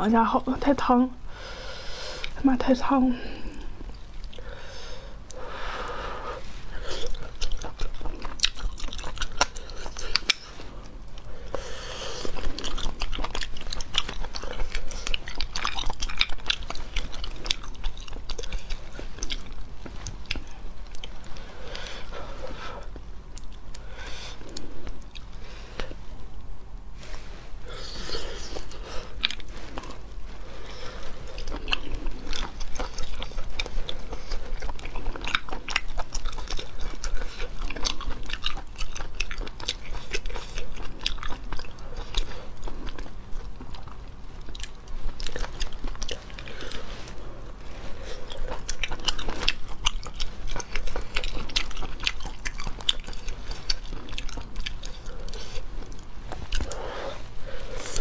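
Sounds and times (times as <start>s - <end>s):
wet chewing and biting: 3.3s - 26.5s, 27.3s - 58.0s.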